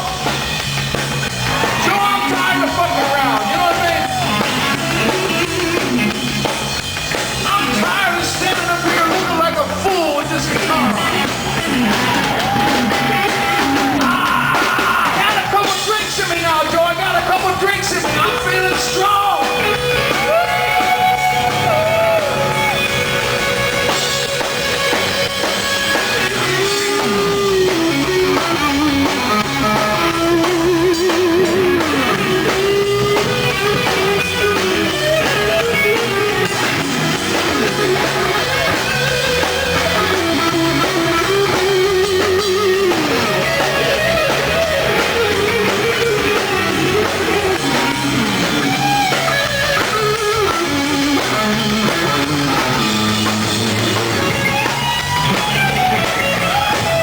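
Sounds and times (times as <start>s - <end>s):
bass and drums: 0.0s - 57.0s
electric guitar lead: 0.0s - 57.0s.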